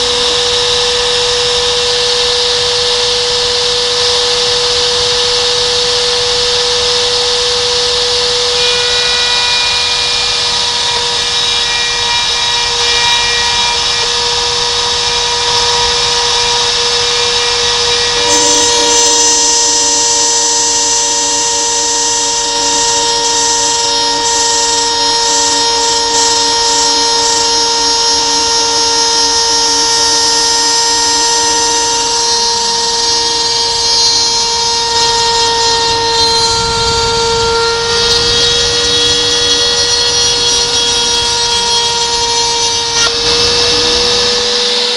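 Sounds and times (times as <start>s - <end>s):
milling machine whining: 0.0s - 44.9s
steady tones: 0.0s - 44.9s.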